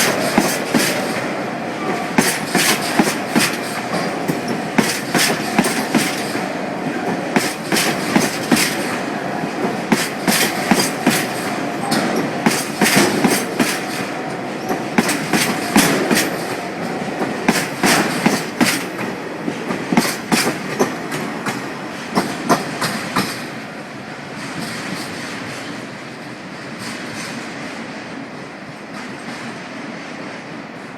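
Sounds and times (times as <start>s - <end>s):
train rolling noise: 0.0s - 30.9s
train wheels clickety-clack: 0.0s - 30.9s.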